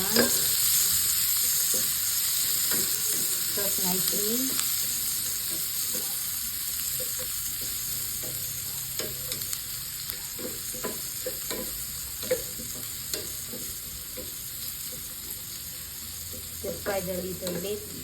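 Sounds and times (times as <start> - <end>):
garlic and onion sizzling in oil: 0.0 - 18.0.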